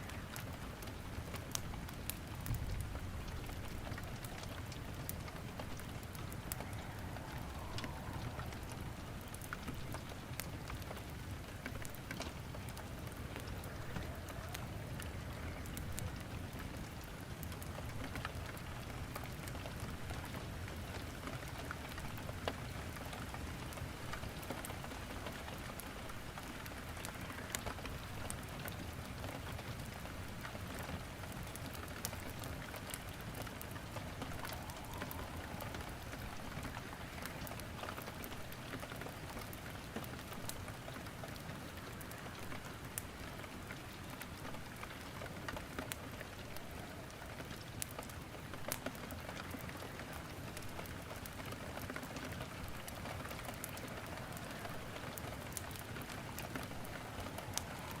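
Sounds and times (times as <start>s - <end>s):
rain falling: 0.0s - 58.0s
wood fire crackling: 0.0s - 58.0s.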